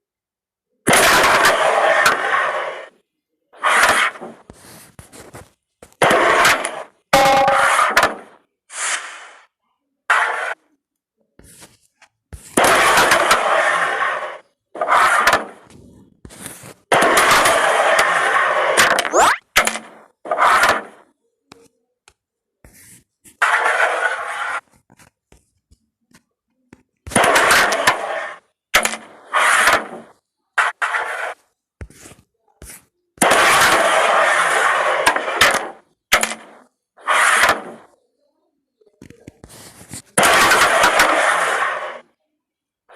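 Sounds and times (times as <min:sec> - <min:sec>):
carrom pieces sliding on board: 0:00.9 - 0:03.0, 0:03.6 - 0:09.5, 0:10.1 - 0:10.6, 0:11.4 - 0:21.0, 0:22.6 - 0:26.2, 0:27.1 - 0:38.0, 0:39.3 - 0:42.0.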